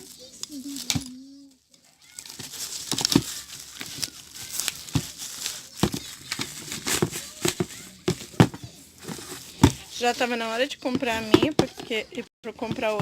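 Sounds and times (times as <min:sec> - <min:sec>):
plastic and paper crinkling: 0:00.0 - 0:13.0.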